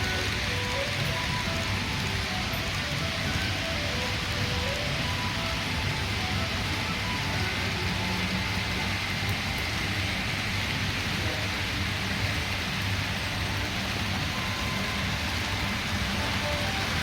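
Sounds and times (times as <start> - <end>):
model trains running on track: 0.0 - 17.0
room background noise: 0.0 - 17.0.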